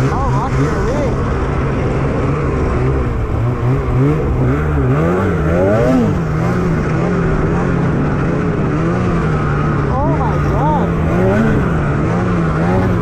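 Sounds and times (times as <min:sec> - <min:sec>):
snowmobile engine revving: 0:00.0 - 0:13.0
wind and snow noise: 0:00.0 - 0:13.0.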